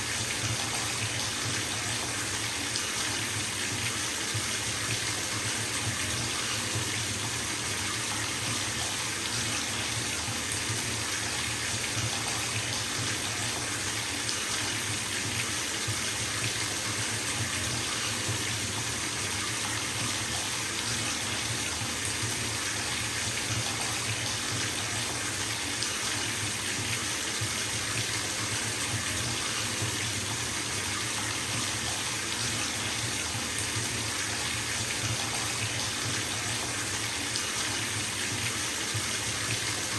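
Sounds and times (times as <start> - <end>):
water running into bathtub: 0.0 - 39.9.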